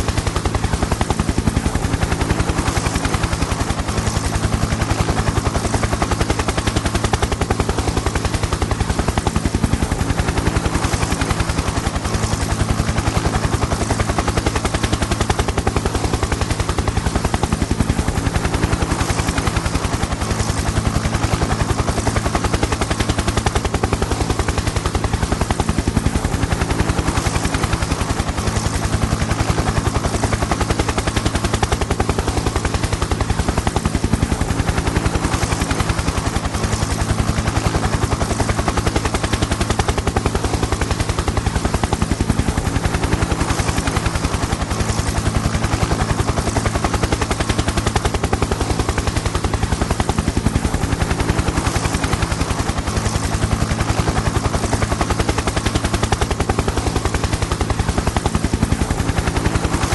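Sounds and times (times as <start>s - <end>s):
helicopter rotor chop: 0.0s - 59.9s.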